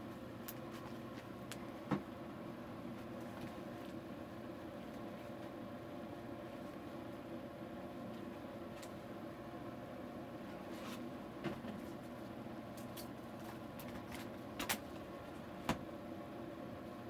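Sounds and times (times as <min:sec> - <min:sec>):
projector humming: 0:00.0 - 0:17.0.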